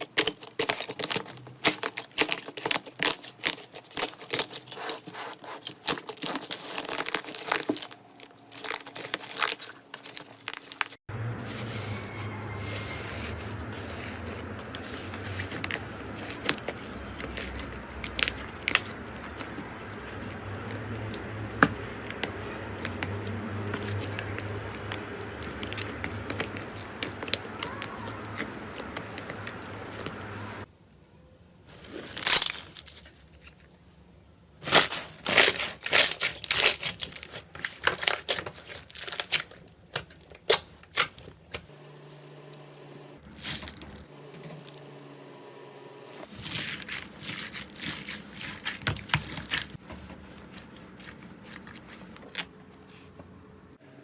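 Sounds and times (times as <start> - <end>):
slime crackling and tearing: 0.0 - 11.0, 12.8 - 30.1, 31.7 - 33.9, 34.6 - 41.3, 46.2 - 52.7.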